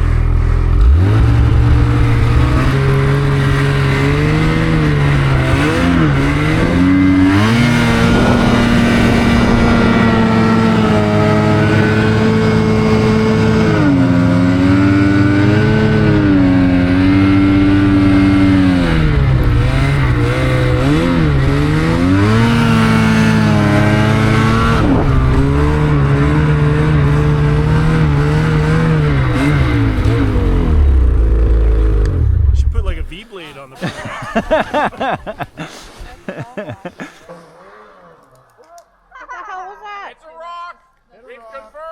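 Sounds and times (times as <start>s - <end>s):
snowmobile engine revving: 0.0s - 39.4s.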